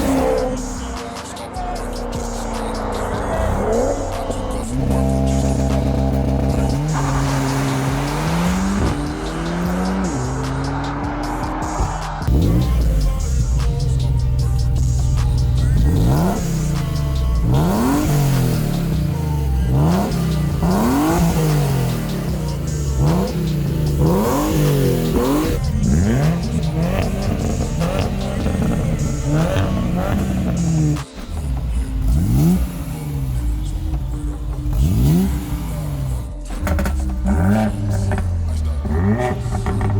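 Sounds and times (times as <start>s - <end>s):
car engines revving: 0.0s - 39.9s
music playing: 0.0s - 39.9s.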